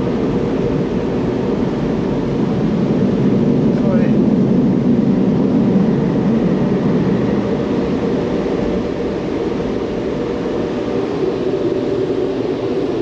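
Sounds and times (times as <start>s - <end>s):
car wash equipment roaring: 0.0s - 13.0s.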